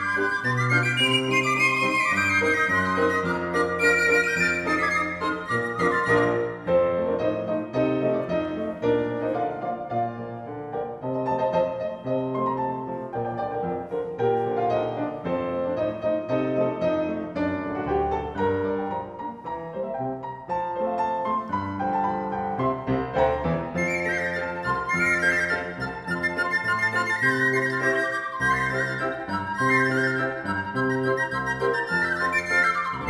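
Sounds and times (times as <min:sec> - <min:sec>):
grand piano playing a polka: 0:00.0 - 0:33.0.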